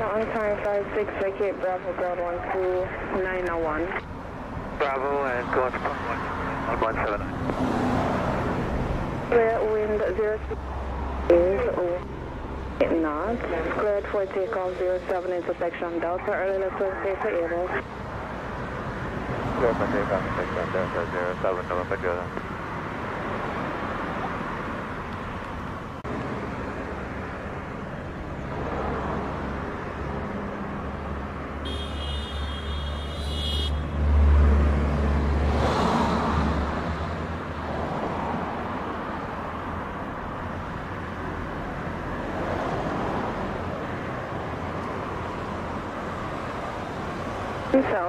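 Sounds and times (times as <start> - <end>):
outdoor background noise: 0.0 - 48.0.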